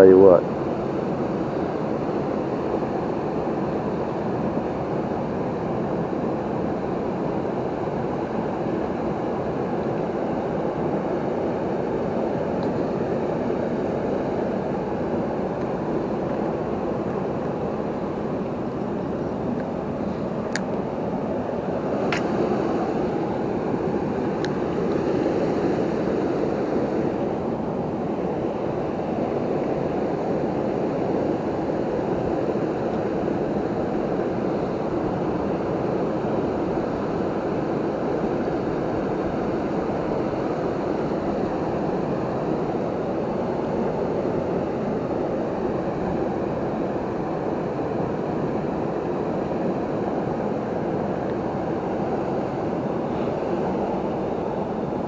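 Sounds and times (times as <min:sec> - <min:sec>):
waterfall and river rushing: 0:00.5 - 0:55.0.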